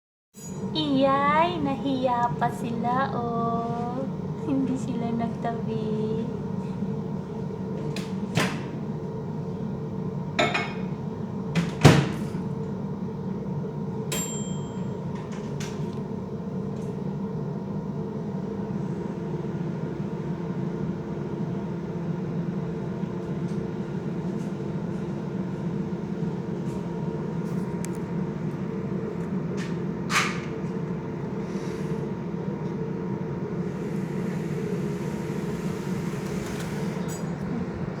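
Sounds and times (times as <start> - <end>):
steady mechanical hum: 0.4 - 38.0.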